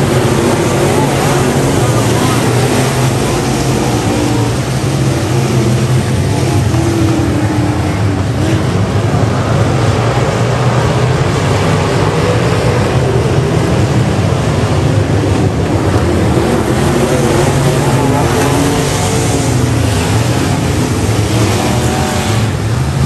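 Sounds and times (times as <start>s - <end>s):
race car engines roaring: 0.0s - 23.0s.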